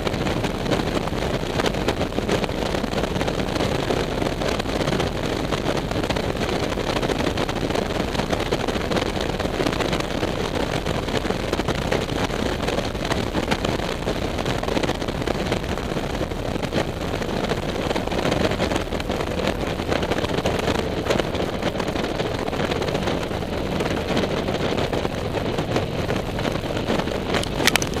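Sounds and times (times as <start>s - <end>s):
motorcycle engine drone: 0.0s - 28.0s
wind rushing over microphone: 0.0s - 28.0s.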